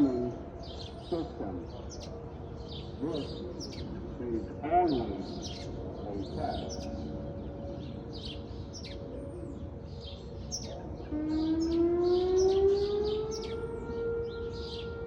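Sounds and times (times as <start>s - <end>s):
outdoor warning siren: 0.0s - 3.5s, 5.7s - 15.0s
birds chirping: 0.0s - 15.0s.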